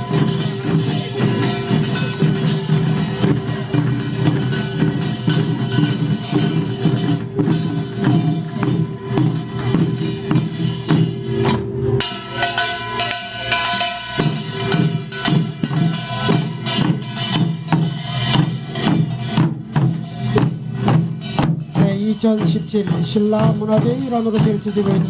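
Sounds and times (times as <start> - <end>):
drums beaten fast: 0.0 - 25.0
metal gongs ringing: 0.0 - 25.0.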